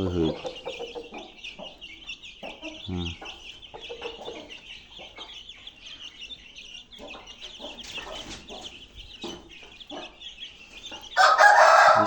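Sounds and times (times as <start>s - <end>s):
chicks peeping: 0.0s - 12.0s
hens clucking: 0.0s - 12.0s.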